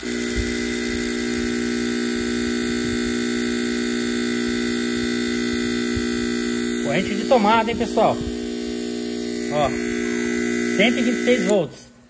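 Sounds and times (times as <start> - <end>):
electrical hum of stalled motor: 0.0 - 12.0.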